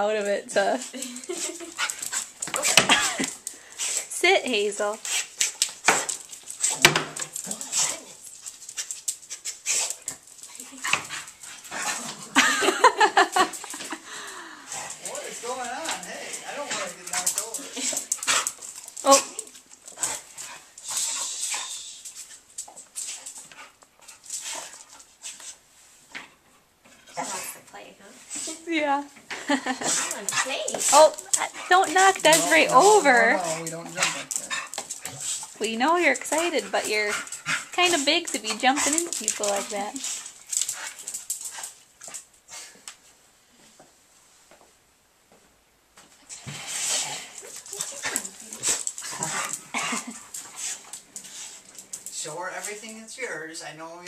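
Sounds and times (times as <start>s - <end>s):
dog panting: 0.6s - 25.6s, 29.4s - 42.8s, 46.3s - 53.0s.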